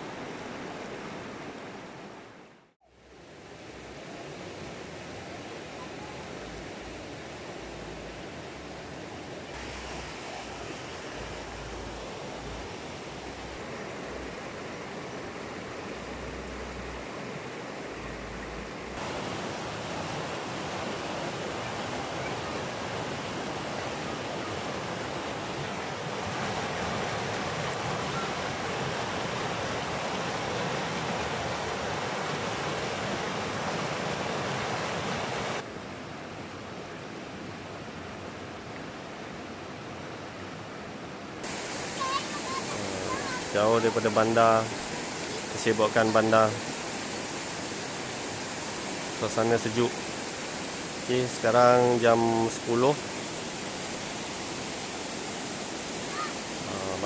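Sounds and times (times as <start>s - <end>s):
flowing river water: 0.0s - 57.0s.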